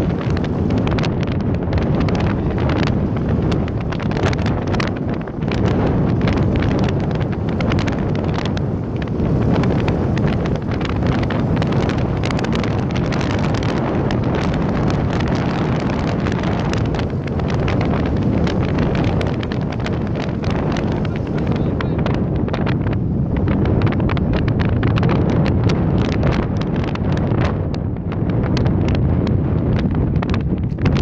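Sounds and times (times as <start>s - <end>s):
wind on microphone crackling: 0.0s - 31.0s.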